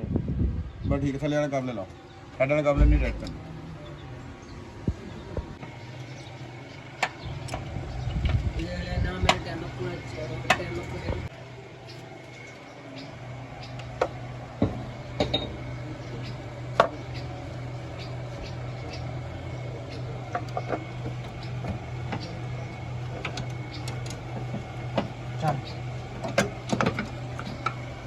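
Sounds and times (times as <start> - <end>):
car engine idling: 2.0 - 28.0.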